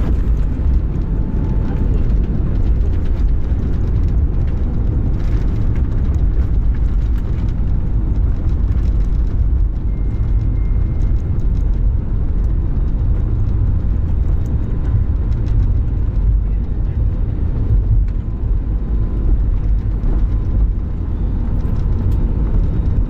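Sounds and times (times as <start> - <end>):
airplane engines roaring: 0.0 - 23.0.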